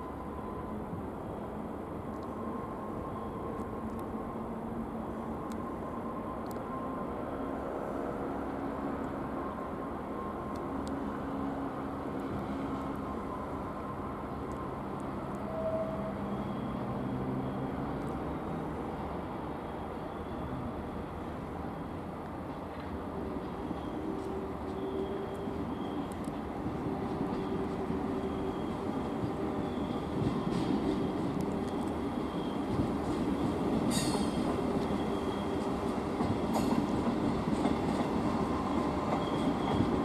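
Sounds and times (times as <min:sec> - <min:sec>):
train drive humming: 0:00.0 - 0:40.0
train rumbling: 0:00.0 - 0:40.0.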